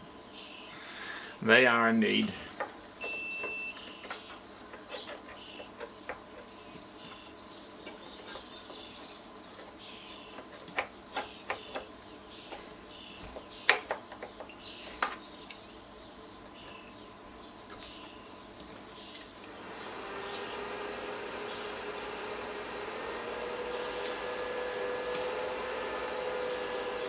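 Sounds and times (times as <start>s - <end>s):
faint high chirping: 2.4s - 27.0s.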